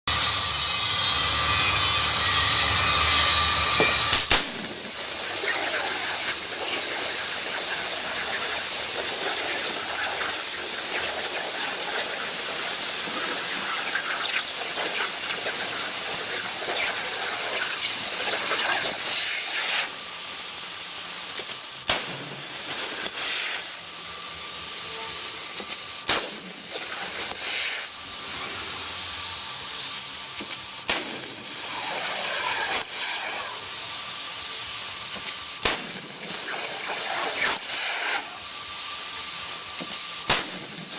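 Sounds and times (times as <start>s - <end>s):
plasma cutter arc hissing: 0.1s - 40.9s.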